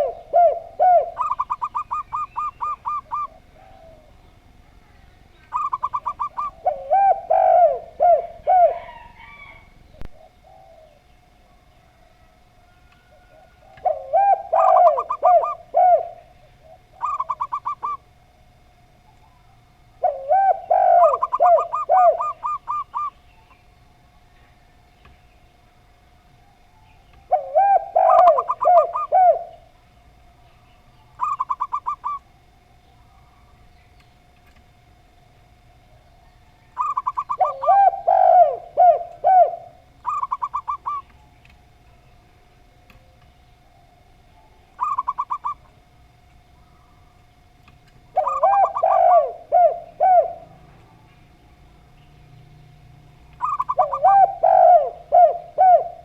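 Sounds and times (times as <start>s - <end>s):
doves cooing: 0.0s - 24.0s, 25.8s - 33.5s, 35.4s - 56.0s
faint steady hum: 0.0s - 56.0s.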